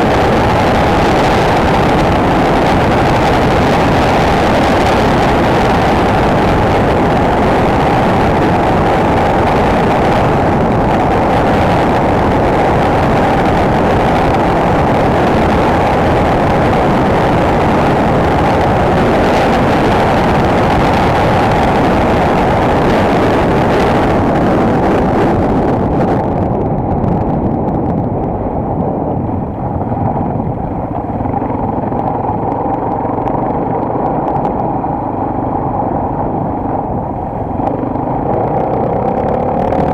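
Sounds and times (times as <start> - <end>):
motorcycle engine running: 0.0 - 39.9
wind noise rushing: 0.0 - 39.9.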